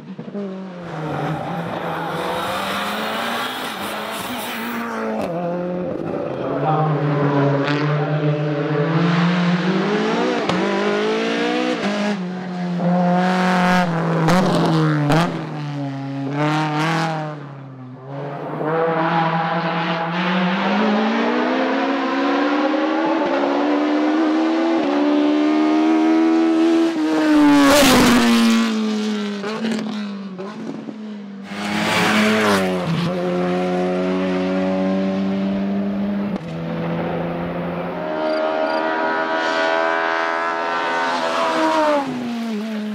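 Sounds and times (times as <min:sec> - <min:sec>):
racing car engines at full throttle: 0:00.0 - 0:42.9.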